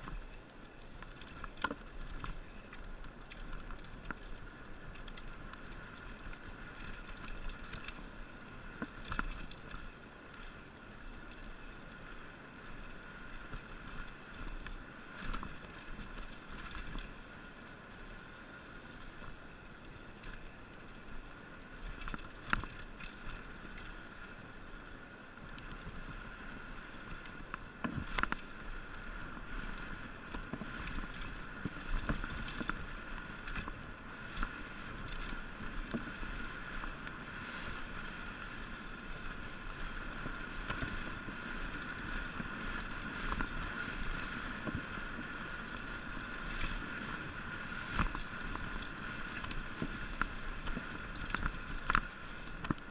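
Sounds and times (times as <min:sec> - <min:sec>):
bike knocking and rattling: 0:00.0 - 0:17.3, 0:20.2 - 0:24.1, 0:26.6 - 0:52.9
bike tyres rolling on dirt: 0:00.0 - 0:52.9.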